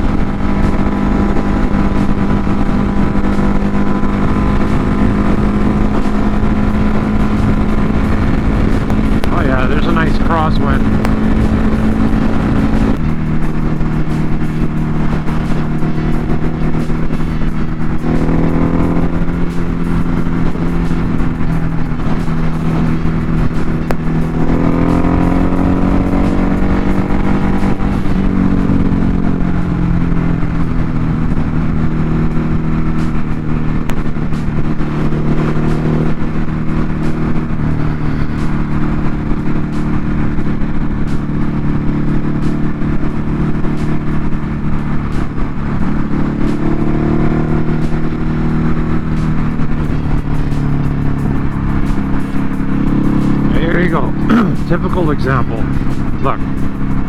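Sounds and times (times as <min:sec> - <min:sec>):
wind rushing: 0:00.0 - 0:54.3
motorcycle engine running: 0:00.0 - 0:57.0.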